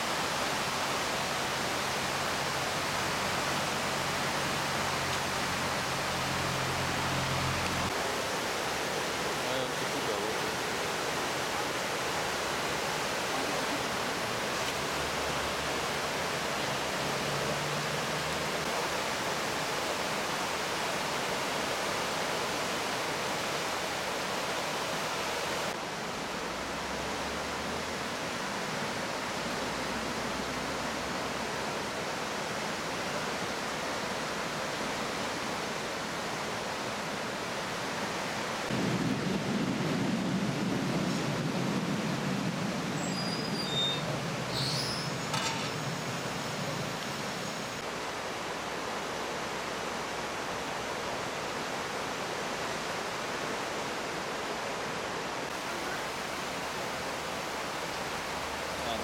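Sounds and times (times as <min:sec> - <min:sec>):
floodwater rushing and churning: 0:00.0 - 0:59.0.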